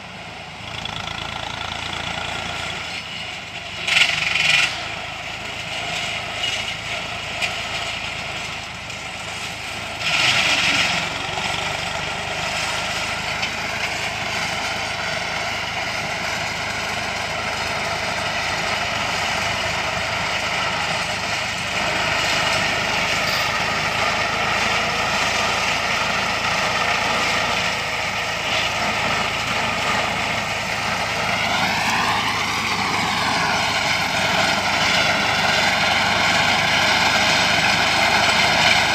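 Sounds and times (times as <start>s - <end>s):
mowing machine engines running: 0.0s - 38.9s.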